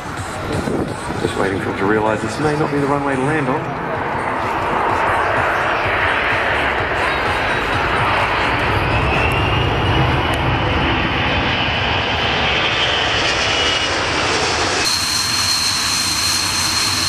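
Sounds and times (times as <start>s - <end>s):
high-pitched engine whine: 0.0s - 17.0s
jet engines roaring: 0.0s - 17.0s.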